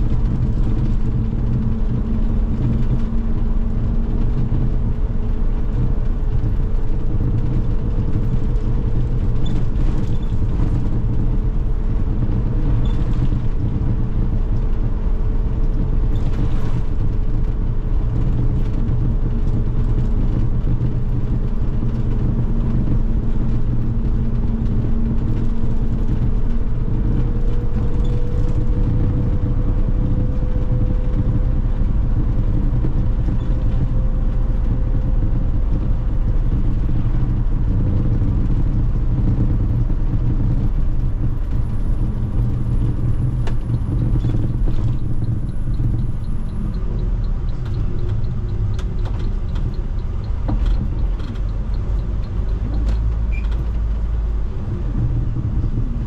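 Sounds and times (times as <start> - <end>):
bus engine hum: 0.0 - 56.0.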